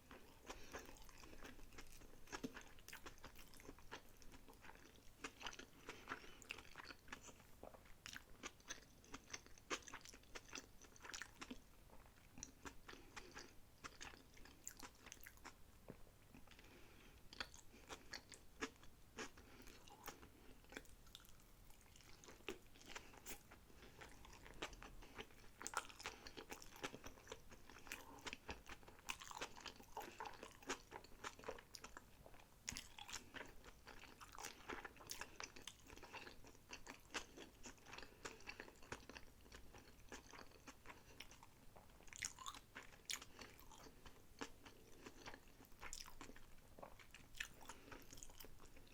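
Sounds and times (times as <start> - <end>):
chewing with wet crunches: 0.0 - 15.6, 16.3 - 48.9.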